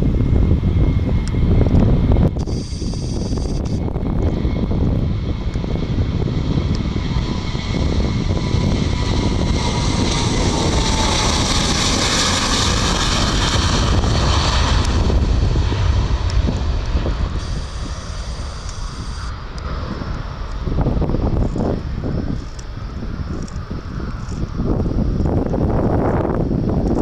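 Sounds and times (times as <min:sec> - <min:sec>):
jet airliner passing: 0:00.0 - 0:27.0
jet engine whine: 0:00.0 - 0:27.0.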